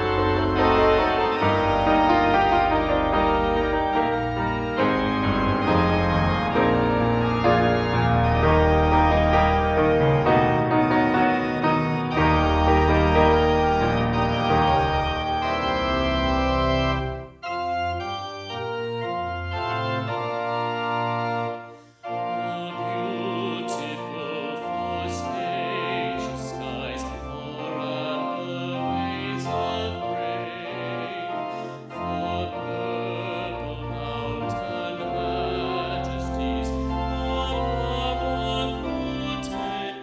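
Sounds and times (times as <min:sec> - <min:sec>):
organ playing sustained chords: 0:00.0 - 0:40.0.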